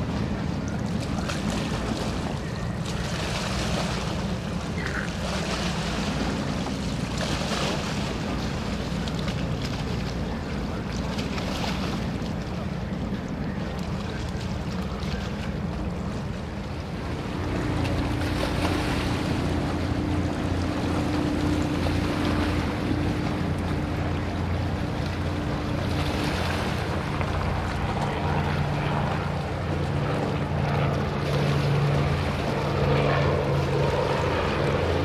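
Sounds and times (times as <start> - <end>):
boat engine rumble: 0.0 - 35.0
steady engine hum: 0.0 - 35.0
water noise: 0.0 - 35.0.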